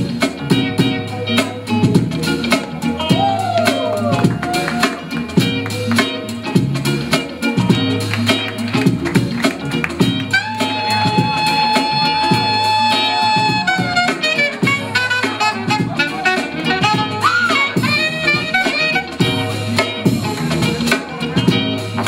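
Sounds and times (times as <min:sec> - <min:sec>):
steady drum beat: 0:00.0 - 0:22.0.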